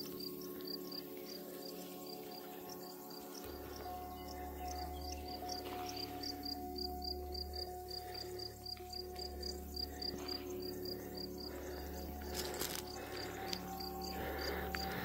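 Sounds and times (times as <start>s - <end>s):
cricket chirping: 0.0s - 15.0s
soft sustained tones: 0.0s - 15.0s.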